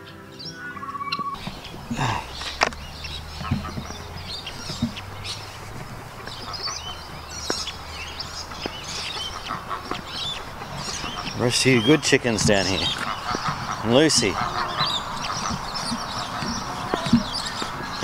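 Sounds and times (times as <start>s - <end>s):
bird chirps and calls: 0.0s - 18.0s.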